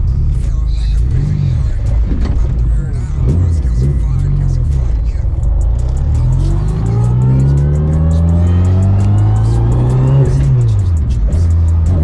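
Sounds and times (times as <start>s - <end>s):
race car engine accelerating hard: 0.0s - 12.0s.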